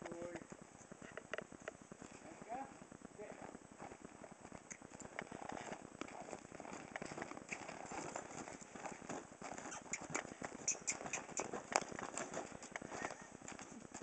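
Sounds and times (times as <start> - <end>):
pony hoofbeats on snow: 1.8 - 14.0.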